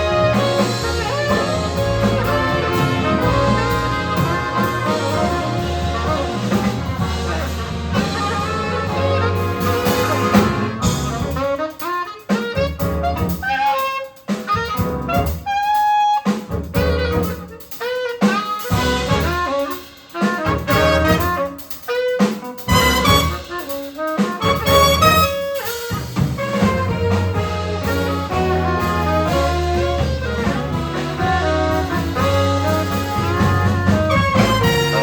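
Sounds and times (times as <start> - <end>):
brass and saxophone ensemble: 0.0 - 35.0
drums: 0.0 - 35.0
horn solo: 0.0 - 35.0.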